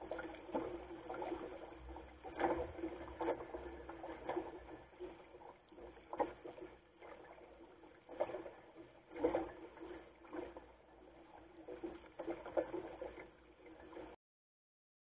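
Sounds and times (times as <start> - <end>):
water splashing against boat hull: 0.0 - 14.2.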